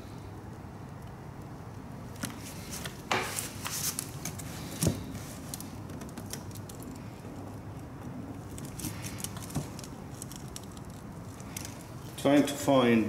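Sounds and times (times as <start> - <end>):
small clicks and handling noises: 0.9 - 12.2.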